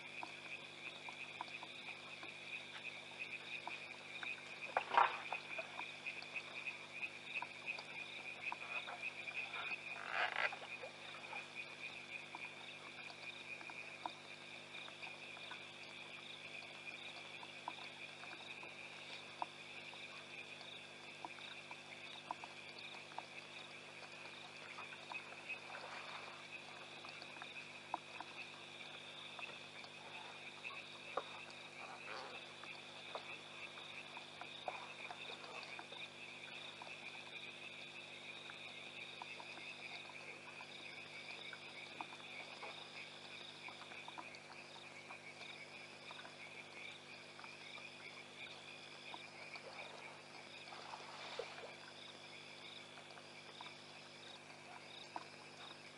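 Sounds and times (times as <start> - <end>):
high trilling frogs and insects: 0.0 - 55.9.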